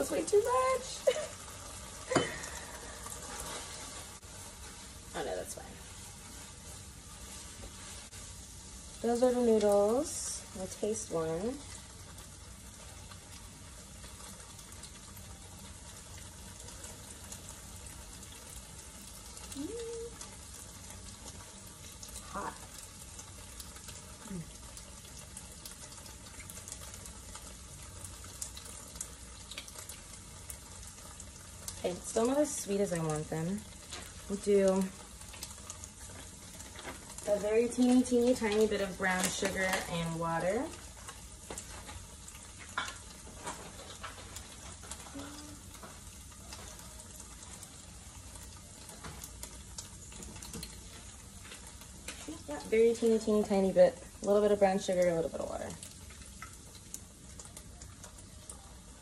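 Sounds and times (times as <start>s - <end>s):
noodles sizzling in oil: 0.0s - 59.0s
sharp crackles: 0.0s - 59.0s.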